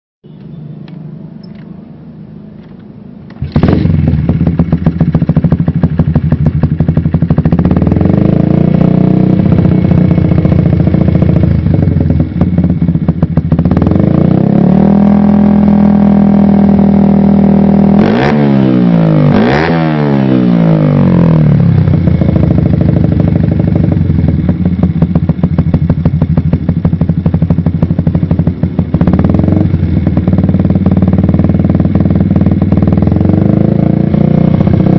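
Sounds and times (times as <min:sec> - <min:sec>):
motorcycle engine revving: 0:03.3 - 0:34.9.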